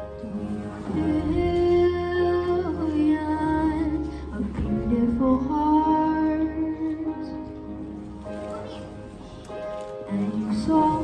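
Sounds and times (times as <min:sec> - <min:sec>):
instrumental backing music: 0:00.0 - 0:11.0.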